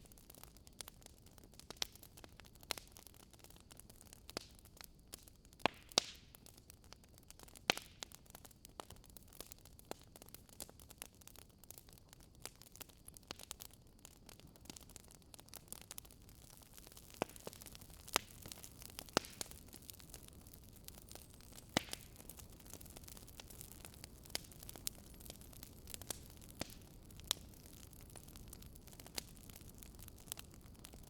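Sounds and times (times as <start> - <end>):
faint fire hiss: 0.0 - 31.0
firewood crackling and popping: 0.0 - 31.0.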